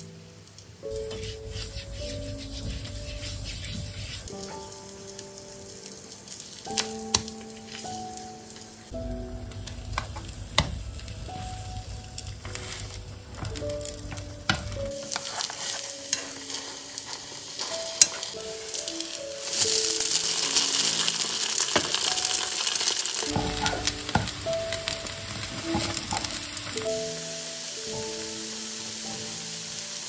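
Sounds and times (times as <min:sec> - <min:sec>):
toast sizzling in a pan: 0:00.1 - 0:30.0.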